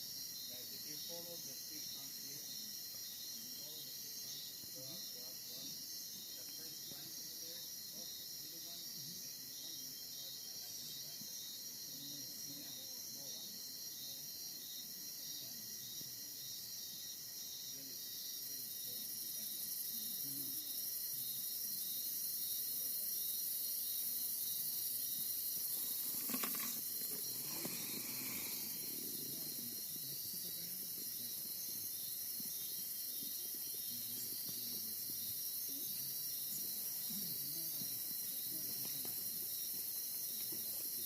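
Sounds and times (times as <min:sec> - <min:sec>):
insect chorus buzzing and trilling: 0:00.0 - 0:41.0.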